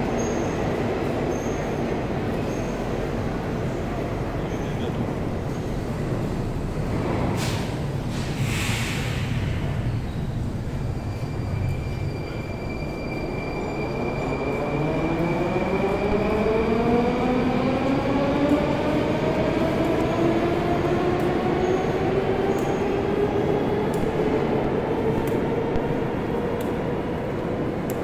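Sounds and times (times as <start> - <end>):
rail rumble: 0.0 - 28.0.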